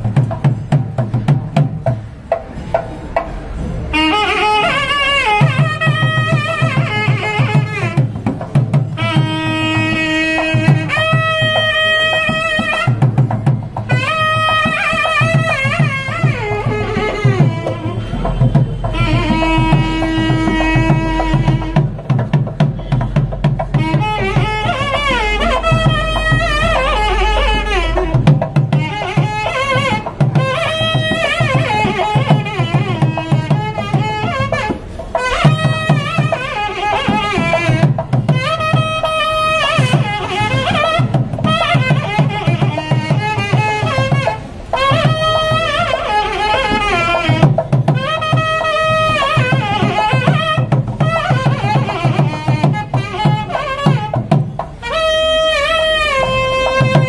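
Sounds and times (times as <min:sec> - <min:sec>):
steady drum beat: 0:00.0 - 0:57.0
wind instrument melody: 0:02.1 - 0:57.0.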